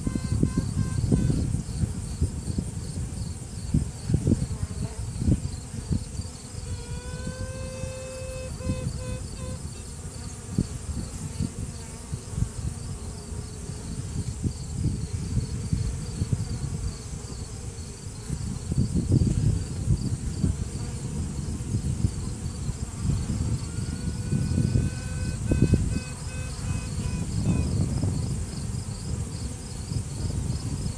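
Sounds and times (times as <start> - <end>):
bees buzzing: 0.0 - 30.9.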